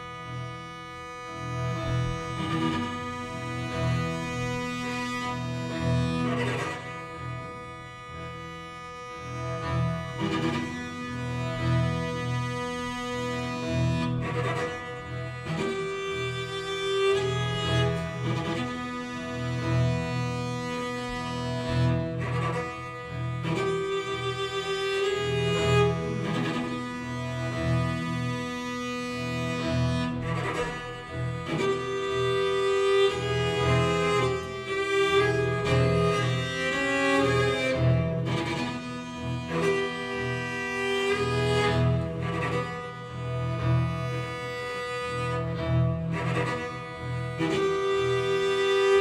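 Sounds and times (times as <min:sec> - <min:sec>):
string ensemble playing slow music: 0:00.0 - 0:49.0.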